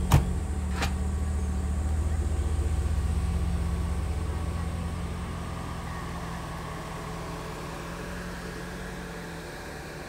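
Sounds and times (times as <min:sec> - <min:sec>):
car engine running at low speed: 0:00.0 - 0:10.0.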